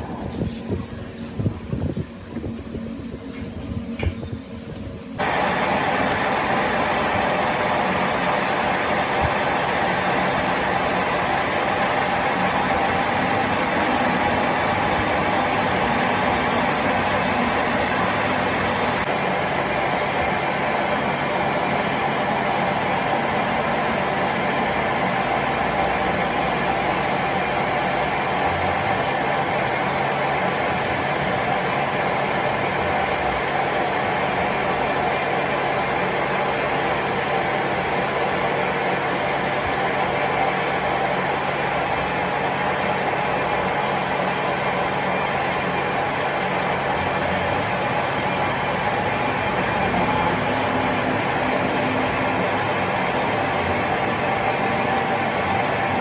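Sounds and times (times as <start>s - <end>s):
machine droning: 0.0s - 56.0s.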